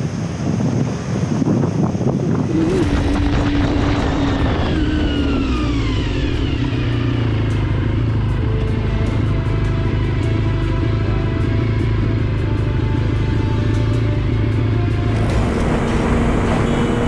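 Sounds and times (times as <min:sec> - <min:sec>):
vehicle engine hum: 0:00.0 - 0:17.0.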